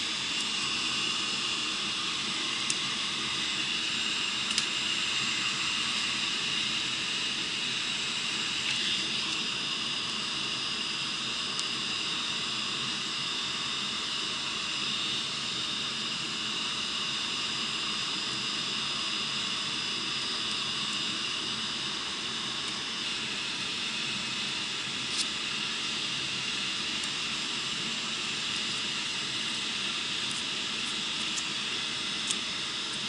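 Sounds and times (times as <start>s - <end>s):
heat gun hissing with high whine: 0.0s - 33.0s.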